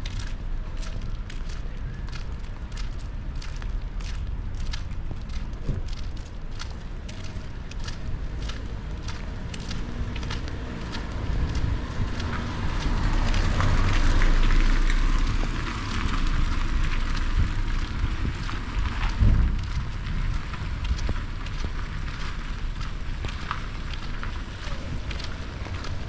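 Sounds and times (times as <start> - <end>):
rain drop ticks: 0.0 - 26.0
wind buffeting microphone: 0.0 - 26.0.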